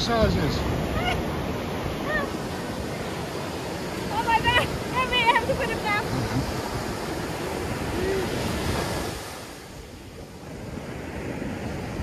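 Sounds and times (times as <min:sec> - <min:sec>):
surf washing up beach: 0:00.0 - 0:12.0.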